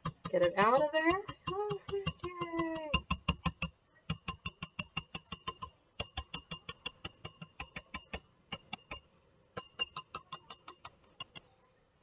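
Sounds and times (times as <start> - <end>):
whisk clicking on glass bowl: 0.0 - 11.5.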